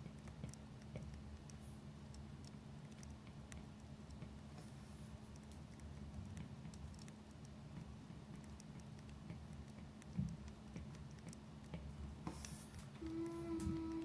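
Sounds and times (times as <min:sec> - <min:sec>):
small clicks and ticks: 0:00.0 - 0:04.6, 0:05.2 - 0:14.0
low steady hum: 0:00.0 - 0:14.0.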